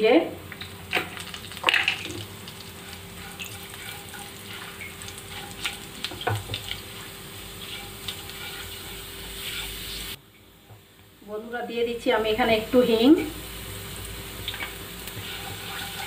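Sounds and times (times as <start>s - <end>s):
seeds sizzling in hot oil: 0.1s - 10.2s, 11.1s - 16.0s.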